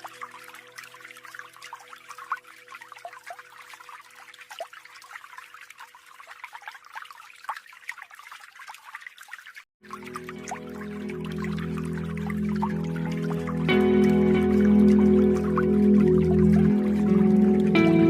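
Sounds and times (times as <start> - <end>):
waterfall trickling and splashing: 0.0 - 18.0.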